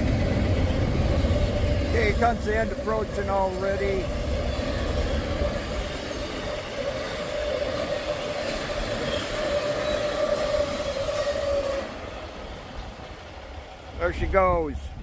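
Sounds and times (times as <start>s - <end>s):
high wheel squeal: 0.0s - 12.9s
freight train rolling past: 0.0s - 15.0s.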